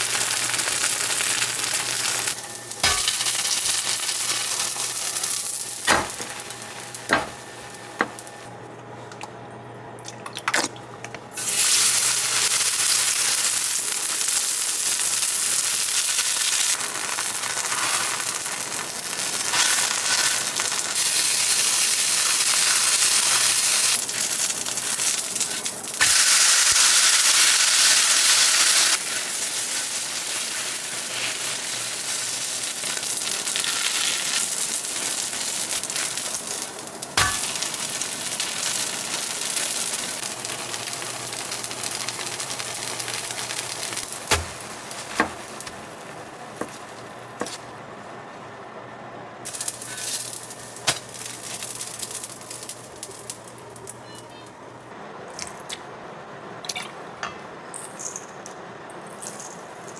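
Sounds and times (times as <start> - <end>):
food sizzling in a pan: 0.0 - 8.5, 11.4 - 47.6, 49.4 - 54.1.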